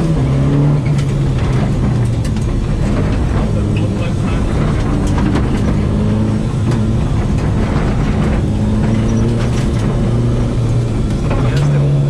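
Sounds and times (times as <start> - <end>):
rally car engine pulling: 0.0 - 12.0.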